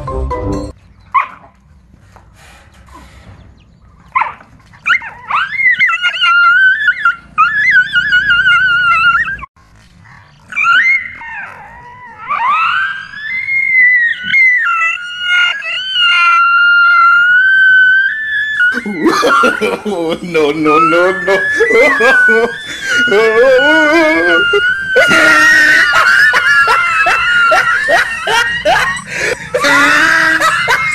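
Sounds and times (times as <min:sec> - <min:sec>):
dog howling and yelping: 0:04.2 - 0:09.5, 0:10.5 - 0:30.9.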